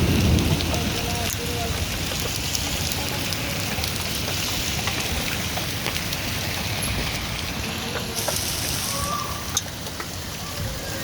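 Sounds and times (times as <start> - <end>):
heavy rain falling: 0.0 - 11.0
raindrop ticks: 0.0 - 11.0.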